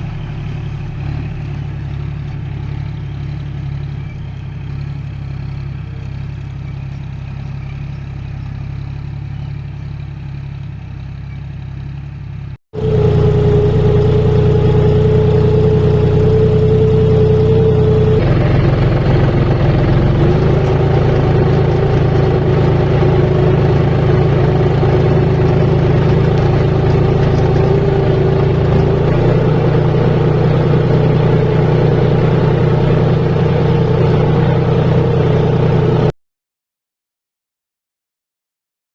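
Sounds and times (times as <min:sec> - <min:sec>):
engine whine: 0:00.0 - 0:36.2
tractor diesel engine running: 0:00.0 - 0:36.2.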